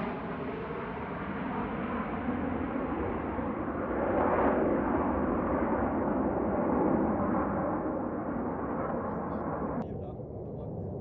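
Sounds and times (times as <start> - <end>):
jet fighters roaring: 0.0 - 11.0.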